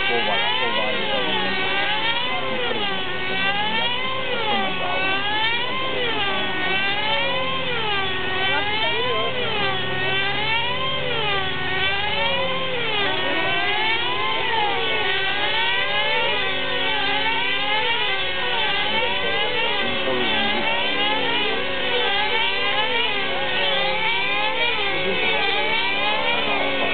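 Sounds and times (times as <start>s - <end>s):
model helicopter rotor whine: 0.0s - 26.9s.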